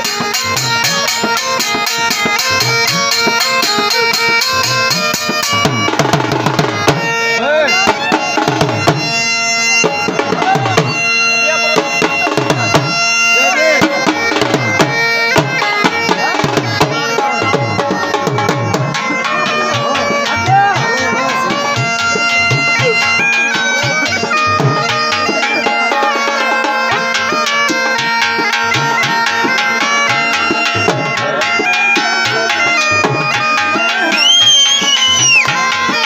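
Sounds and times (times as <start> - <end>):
bagpipe melody over drone: 0.0 - 36.0
drum beating steady rhythm: 0.0 - 36.0.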